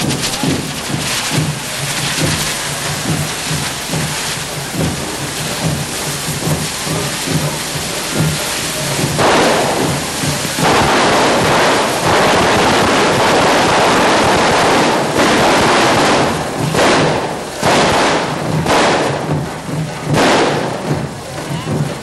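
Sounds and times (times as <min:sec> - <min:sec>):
drums beating faintly: 0:00.0 - 0:22.0
firework cracks and bangs: 0:00.0 - 0:22.0
firework fountains hissing: 0:00.0 - 0:22.0.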